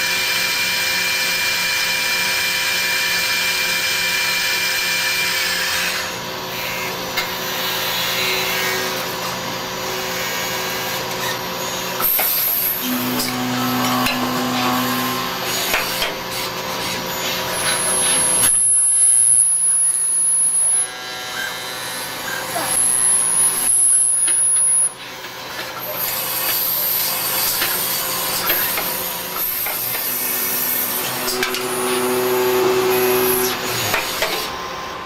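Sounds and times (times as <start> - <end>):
lathe machine whine: 0.0 - 35.0.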